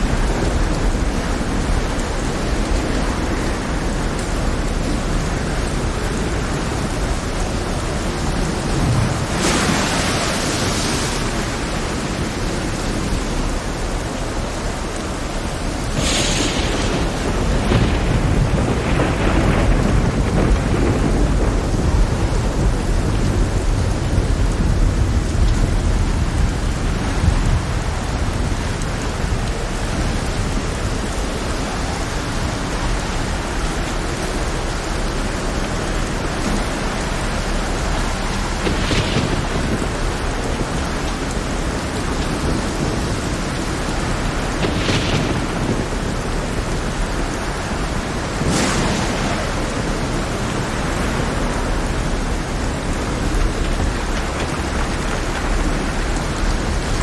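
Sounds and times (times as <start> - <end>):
heavy rain falling: 0.0 - 57.0
thunder cracks and rumble: 0.0 - 57.0.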